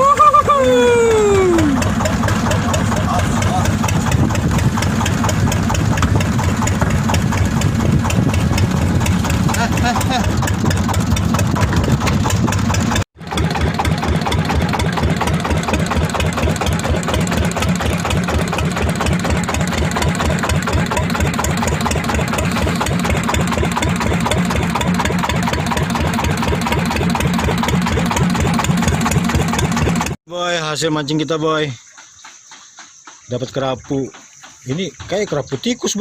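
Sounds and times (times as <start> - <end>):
boat engine running: 0.0 - 30.2, 32.2 - 36.0.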